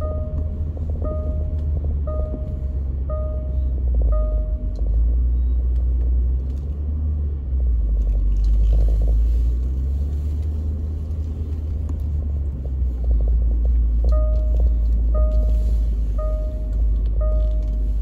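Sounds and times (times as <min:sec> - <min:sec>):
vehicle rumbling over rough ground: 0:00.0 - 0:18.0.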